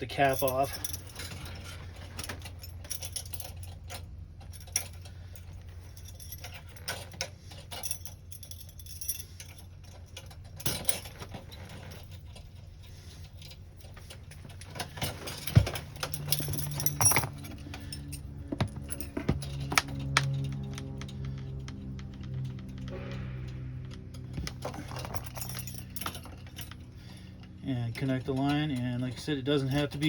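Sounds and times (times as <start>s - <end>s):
metal wrenches clinking: 0.0s - 23.2s, 23.9s - 30.0s
steady low hum: 0.0s - 30.0s.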